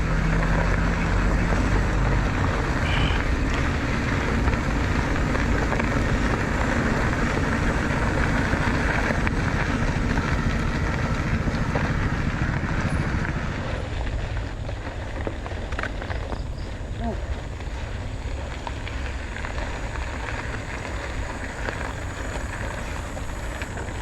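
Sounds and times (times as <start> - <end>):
motorcycle engine at speed: 0.0 - 24.0
wind rushing over microphone: 0.0 - 24.0.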